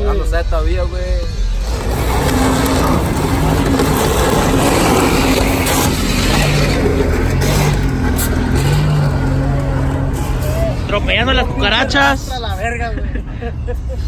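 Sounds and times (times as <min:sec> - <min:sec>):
truck engine and exhaust running: 0:01.3 - 0:14.0.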